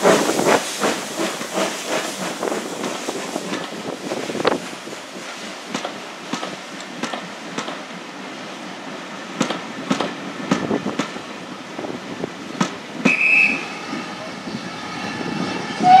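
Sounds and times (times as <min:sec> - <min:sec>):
train wheels clicking over rail joints: 0:00.0 - 0:13.7.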